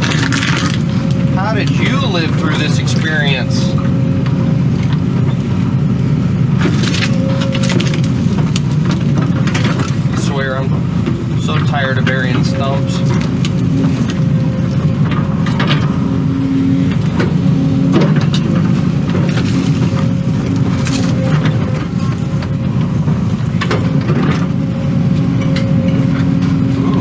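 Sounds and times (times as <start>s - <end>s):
excavator diesel drone: 0.0s - 27.0s
pitched hydraulic hum: 0.0s - 27.0s.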